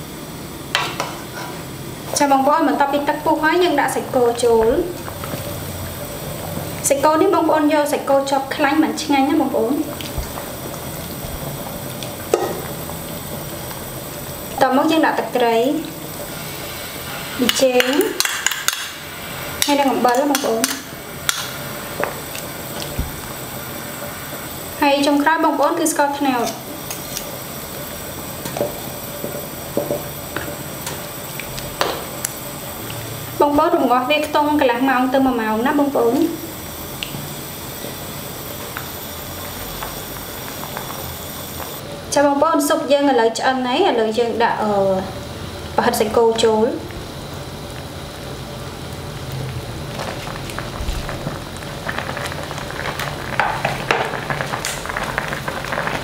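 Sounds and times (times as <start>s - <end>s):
soup bubbling and crackling: 4.7s - 7.4s, 8.0s - 35.0s, 35.8s - 41.8s, 46.8s - 56.0s.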